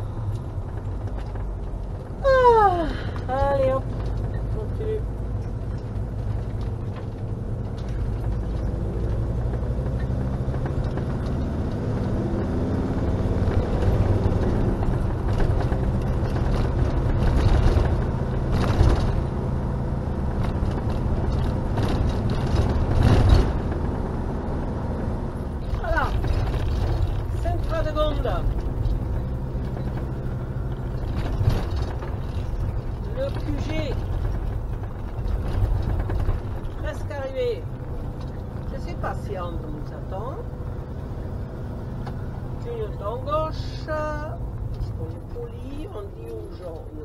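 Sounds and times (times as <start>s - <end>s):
engine and tyre rumble: 0.0s - 47.0s.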